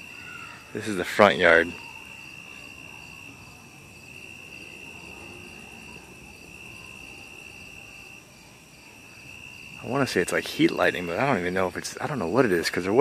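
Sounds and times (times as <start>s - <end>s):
insects trilling: 0.0s - 13.0s
soft high insect chirp: 0.0s - 13.0s.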